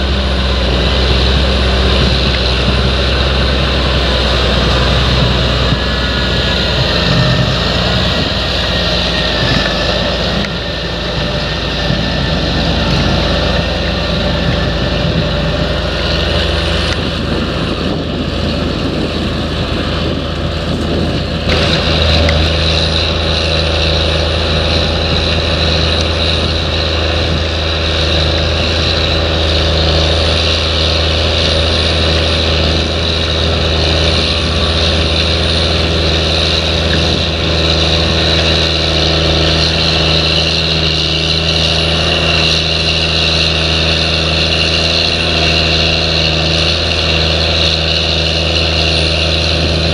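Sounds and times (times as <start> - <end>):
tractor diesel engines droning: 0.0 - 49.9.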